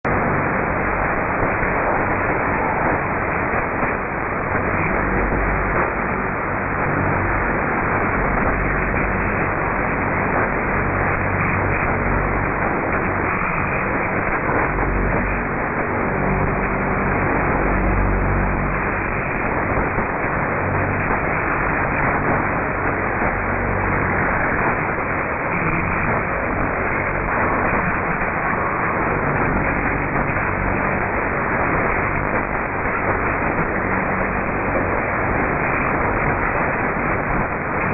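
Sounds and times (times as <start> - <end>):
radio low hum tones: 0.0 - 37.9
radio static hiss: 0.1 - 37.9.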